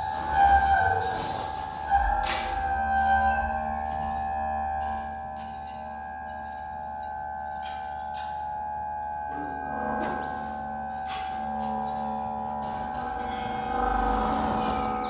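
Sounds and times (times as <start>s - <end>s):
electronic drone: 0.0s - 15.0s.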